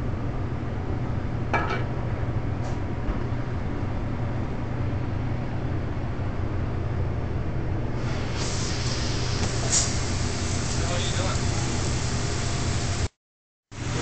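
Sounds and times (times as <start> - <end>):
gas burners and exhaust drone: 0.0 - 14.0.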